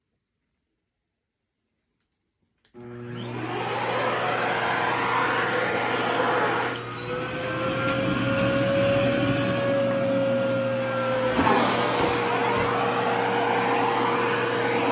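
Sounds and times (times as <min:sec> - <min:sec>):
vacuum cleaner motor whine: 0:02.8 - 0:14.9.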